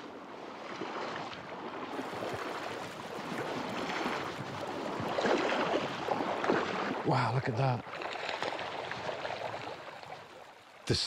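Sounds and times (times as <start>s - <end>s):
water splashes: 0.0s - 11.0s
river water rushing: 1.9s - 11.0s.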